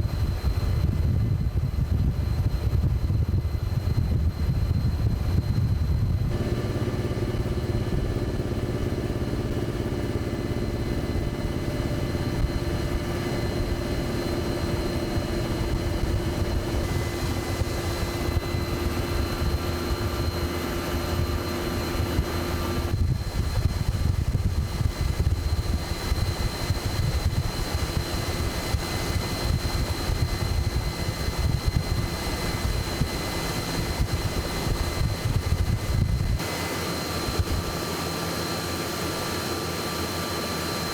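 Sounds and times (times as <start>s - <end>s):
helicopter rotor beat: 0.0s - 40.9s
turbine whine: 0.0s - 40.9s.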